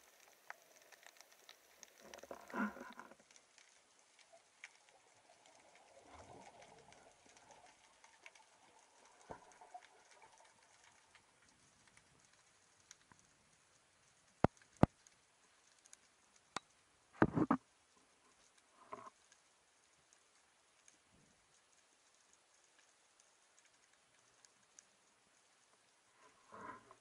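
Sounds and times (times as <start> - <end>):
faint underwater crackle: 0.0 - 27.0.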